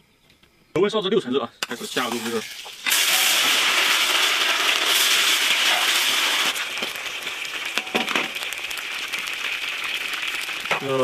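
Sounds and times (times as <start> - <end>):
chicken deep-frying in oil: 1.6 - 11.0.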